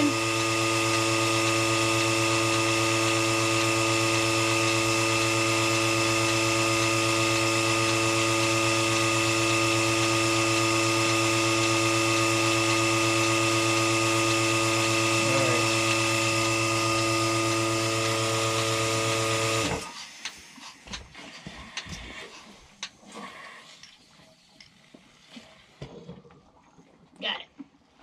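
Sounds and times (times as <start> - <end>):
milking machine pump humming: 0.0 - 24.2.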